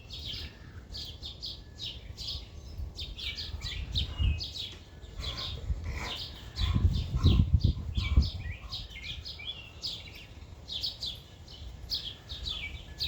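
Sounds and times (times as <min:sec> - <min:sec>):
low wind rumble on microphone: 0:00.0 - 0:11.2
birds chirping: 0:00.0 - 0:13.0.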